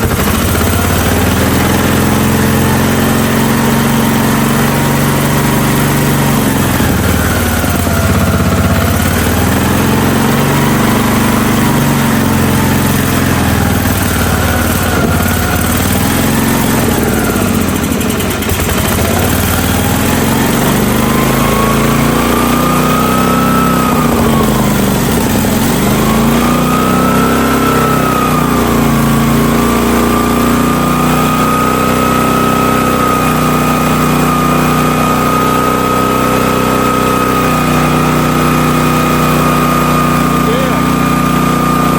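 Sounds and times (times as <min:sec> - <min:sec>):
pressure washer engine running: 0:00.0 - 0:41.9.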